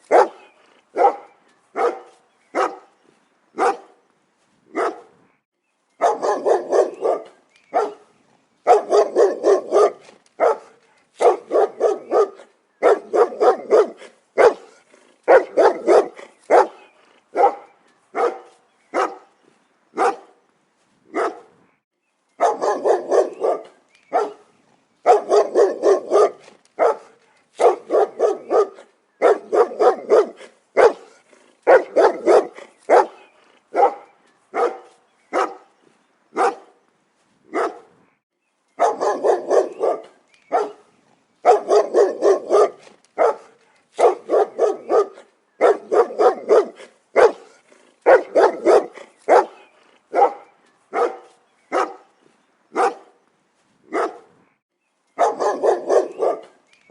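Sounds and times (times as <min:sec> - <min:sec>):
dog barking: 0:00.0 - 0:02.9, 0:03.6 - 0:04.0, 0:04.7 - 0:05.2, 0:06.0 - 0:19.3, 0:20.0 - 0:20.3, 0:21.1 - 0:21.5, 0:22.4 - 0:35.7, 0:36.4 - 0:36.8, 0:37.5 - 0:37.9, 0:38.8 - 0:52.1, 0:52.7 - 0:53.2, 0:53.9 - 0:54.3, 0:55.2 - 0:56.6.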